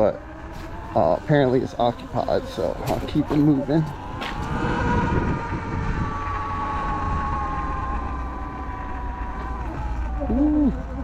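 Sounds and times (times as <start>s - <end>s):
electric motor whining: 0.0s - 11.0s
wind rumble on microphone: 0.0s - 11.0s.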